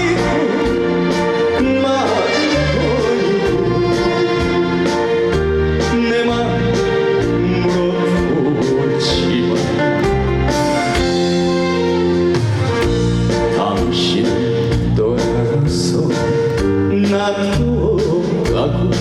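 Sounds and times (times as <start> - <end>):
loud band music: 0.0 - 19.0.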